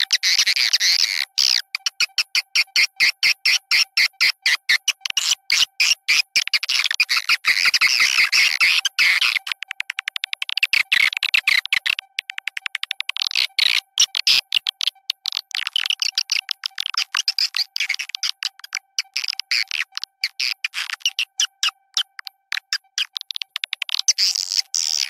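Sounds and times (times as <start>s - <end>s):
recorded bird chirps: 0.0s - 25.0s.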